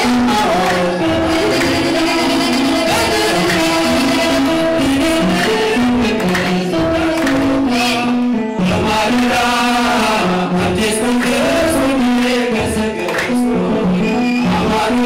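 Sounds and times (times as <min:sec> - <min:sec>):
male choir chanting a hymn: 0:00.0 - 0:15.0.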